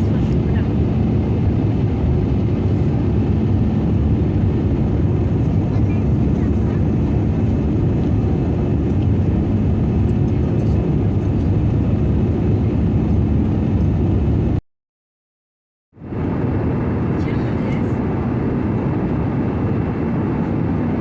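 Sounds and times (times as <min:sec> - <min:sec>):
airplane cabin engine rumble: 0:00.0 - 0:14.6, 0:16.0 - 0:21.0.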